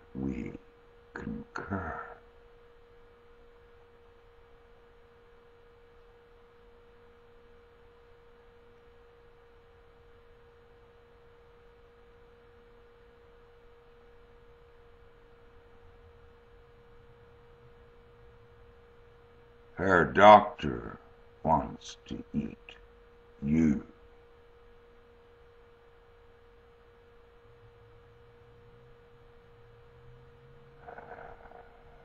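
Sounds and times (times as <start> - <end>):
steady pure tone: 0.0 - 32.0.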